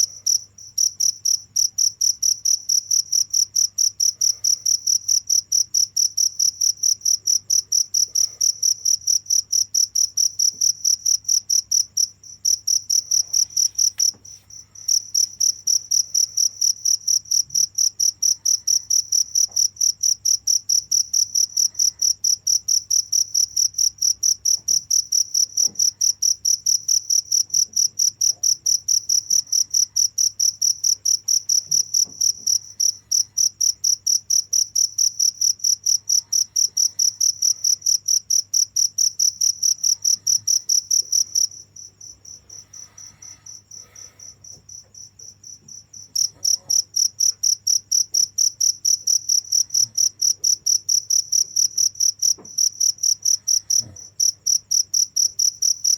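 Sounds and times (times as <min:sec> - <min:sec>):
cricket chirping: 0:00.0 - 0:55.9
faint cricket chirp: 0:00.0 - 0:55.9.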